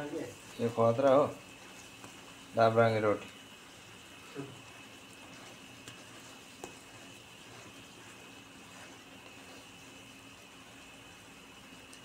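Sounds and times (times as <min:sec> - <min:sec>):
faint oil sizzle in pan: 0:00.0 - 0:12.0.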